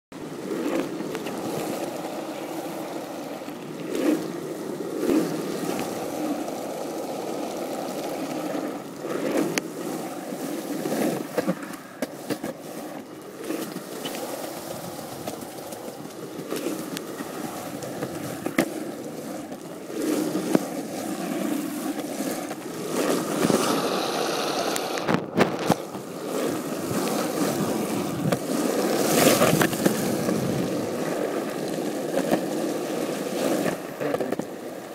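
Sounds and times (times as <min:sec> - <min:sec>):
skateboard wheels rolling on pavement: 0:00.1 - 0:34.9.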